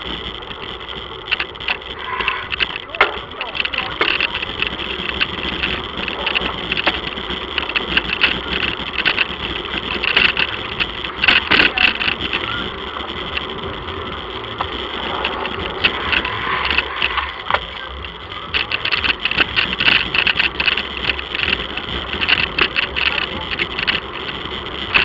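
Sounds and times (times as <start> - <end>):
bicycle rolling over rough pavement: 0.0 - 25.0
rattling clicks and knocks: 0.0 - 25.0.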